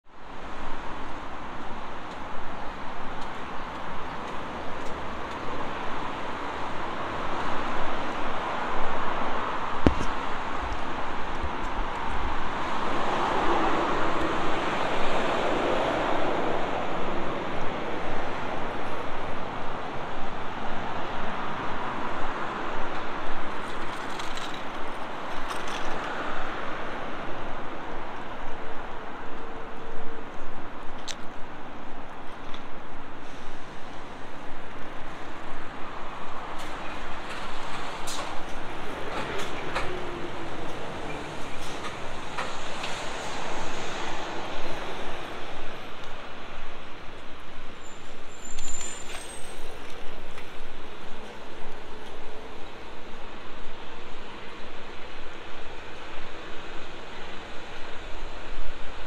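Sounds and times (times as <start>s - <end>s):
cars passing: 0.3s - 53.1s.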